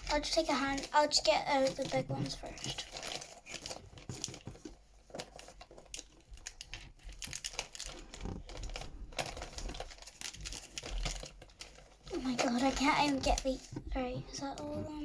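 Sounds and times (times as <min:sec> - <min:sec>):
plastic pens clicking and rattling: 0:00.0 - 0:14.9
pencil case rustling: 0:00.0 - 0:15.0.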